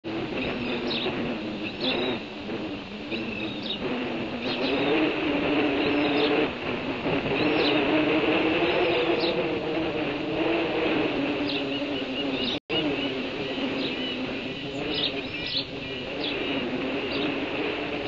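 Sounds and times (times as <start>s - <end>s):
engine humming: 0.0s - 18.0s
bird chirping: 0.1s - 6.5s, 7.2s - 18.0s.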